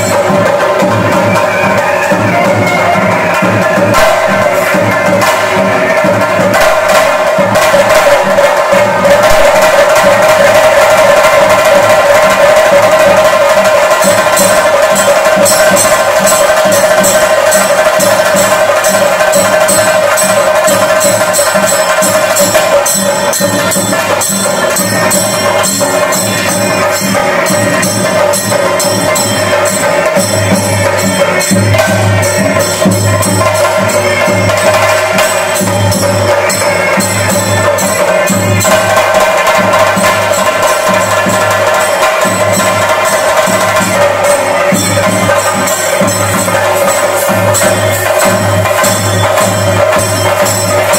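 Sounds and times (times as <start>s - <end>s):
drums beaten with sticks: 0.0s - 50.9s.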